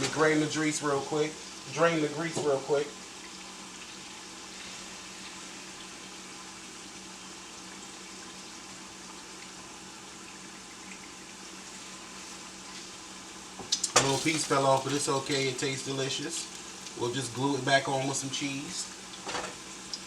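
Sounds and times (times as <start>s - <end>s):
burger patties sizzling in a pan: 0.0s - 20.0s.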